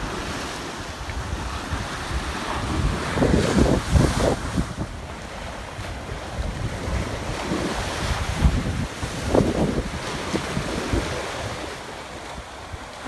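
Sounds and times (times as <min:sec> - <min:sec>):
waves breaking on shore: 0:00.0 - 0:13.0
wind buffeting microphone: 0:00.0 - 0:13.0.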